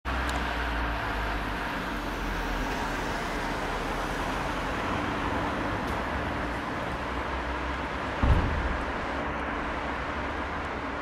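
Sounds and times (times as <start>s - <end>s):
distant road traffic hum: 0.1s - 11.0s.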